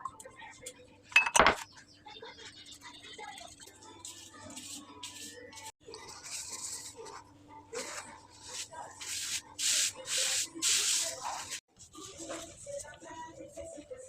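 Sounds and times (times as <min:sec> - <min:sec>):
rubbing and rustling pastry sheets: 0:02.3 - 0:14.0.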